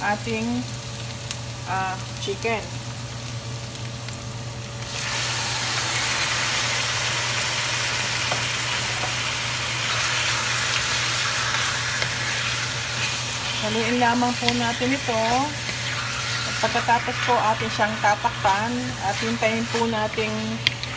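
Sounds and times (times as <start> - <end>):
chicken sizzling in oil: 0.0 - 20.9
oil sizzling in a pan: 0.0 - 20.9.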